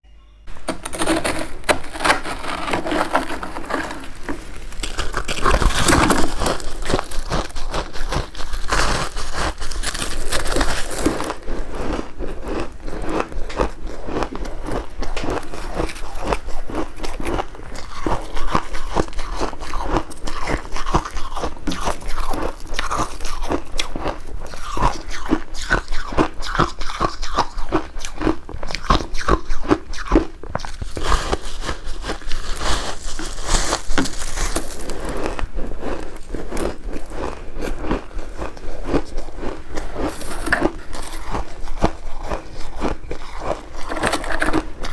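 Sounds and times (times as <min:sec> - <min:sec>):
person crunching ice: 0:00.6 - 0:44.9.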